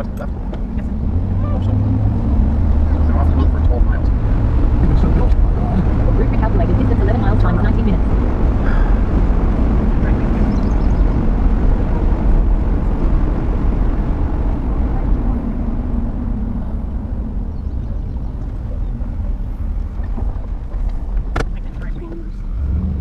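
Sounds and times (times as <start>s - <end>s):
car engine noise: 0.0s - 23.0s
road and tyre rumble: 0.0s - 23.0s.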